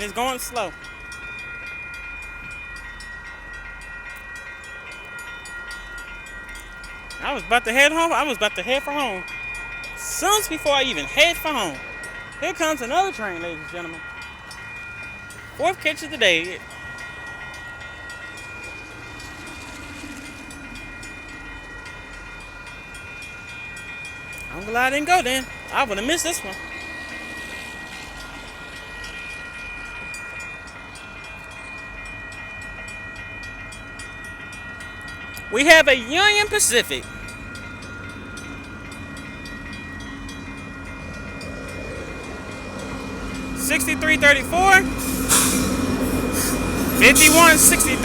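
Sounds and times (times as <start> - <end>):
crossing bell ringing: 0.0 - 48.0
freight train rumbling: 0.0 - 48.0.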